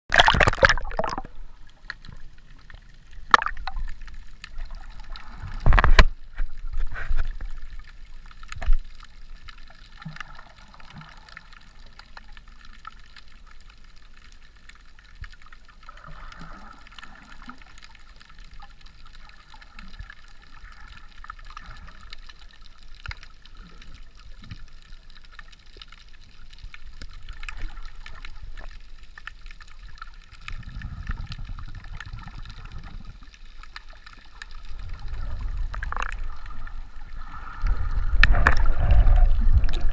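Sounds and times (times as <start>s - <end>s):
soft bubbling: 0.1s - 39.9s
underwater water sloshing: 0.1s - 39.9s.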